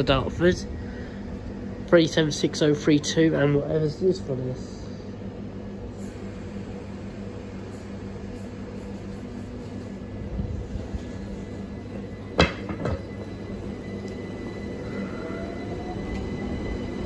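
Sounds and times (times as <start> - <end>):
electric train traction hum: 0.0 - 17.0.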